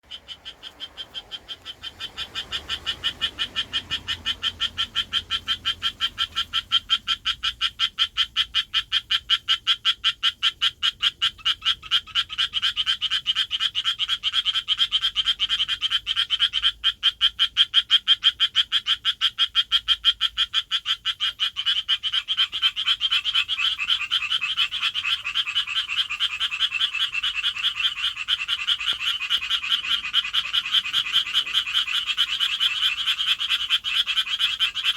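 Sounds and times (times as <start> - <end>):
tree frog calling: 0.0 - 34.9.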